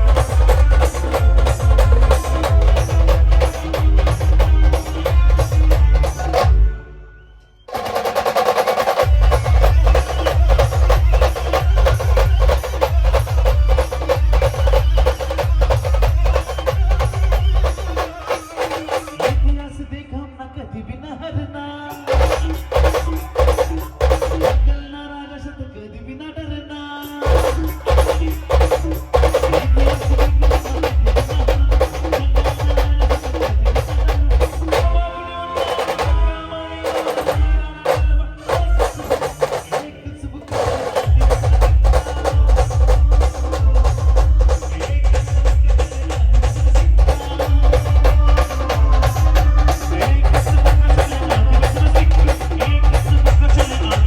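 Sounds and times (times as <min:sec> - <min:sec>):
fast drumming: 0:00.0 - 0:06.7, 0:07.7 - 0:19.8, 0:21.9 - 0:24.9, 0:27.1 - 0:54.0
heavy bass drum beats: 0:00.0 - 0:06.8, 0:07.8 - 0:19.8, 0:22.0 - 0:24.9, 0:27.2 - 0:54.0
live band playing: 0:00.0 - 0:07.1, 0:07.7 - 0:19.6, 0:22.0 - 0:24.8, 0:27.2 - 0:54.0.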